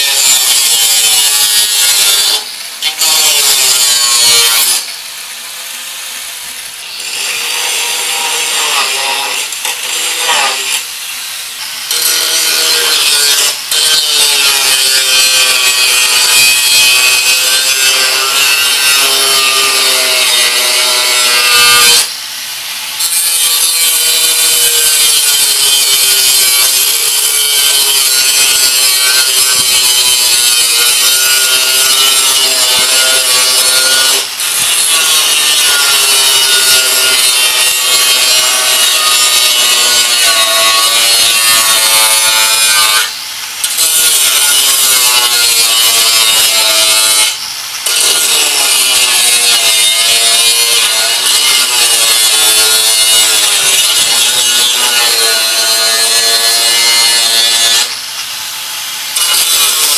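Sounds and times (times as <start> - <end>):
angle grinder cutting steel: 0.0 - 59.9.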